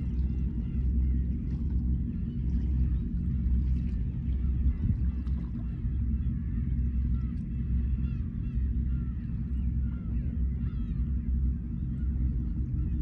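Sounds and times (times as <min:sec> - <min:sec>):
gulls calling: 0:00.0 - 0:13.0
low rumble of waves: 0:00.0 - 0:13.0.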